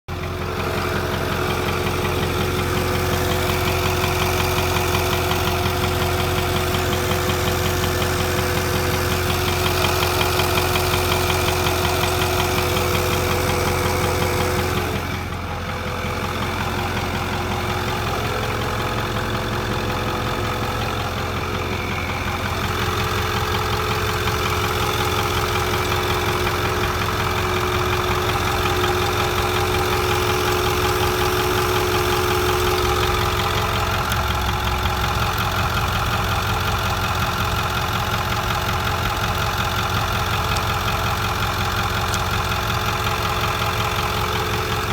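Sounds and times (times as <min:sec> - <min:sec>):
diesel engine idling: 0:00.1 - 0:44.9
steady tone over engine idle: 0:00.1 - 0:44.9.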